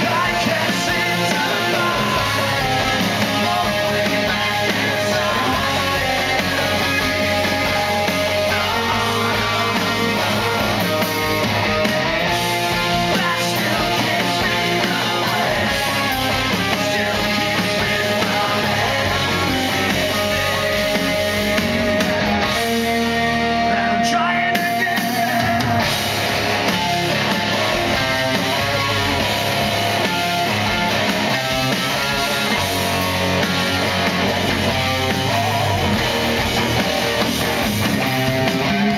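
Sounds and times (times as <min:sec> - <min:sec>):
man singing lead vocal: 0:00.0 - 0:26.0, 0:31.3 - 0:38.9
bass guitar: 0:00.0 - 0:38.9
drums: 0:00.0 - 0:38.9
electric guitars: 0:00.0 - 0:38.9.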